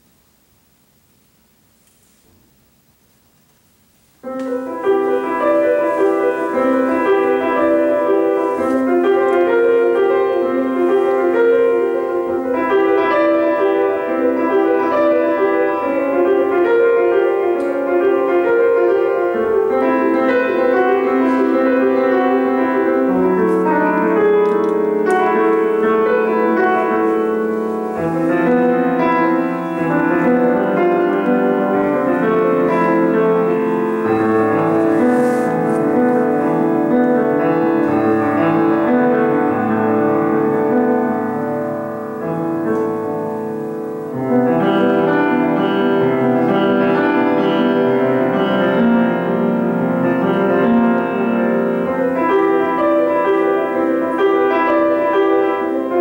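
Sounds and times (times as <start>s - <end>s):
grand piano classical piece: 0.0s - 56.0s.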